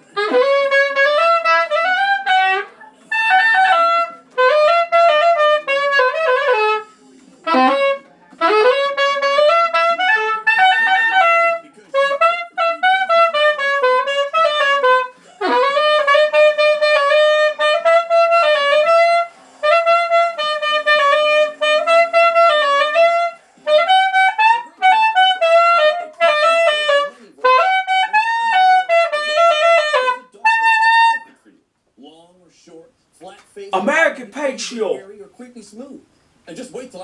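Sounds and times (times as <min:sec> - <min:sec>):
soprano saxophone melody: 0:00.2 - 0:31.3.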